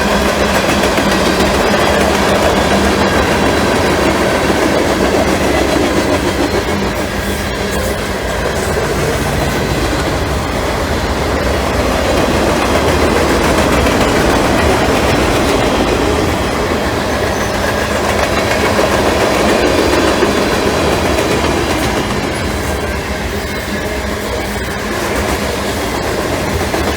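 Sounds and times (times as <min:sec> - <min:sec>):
freight train wheels clacking: 0:00.0 - 0:26.9.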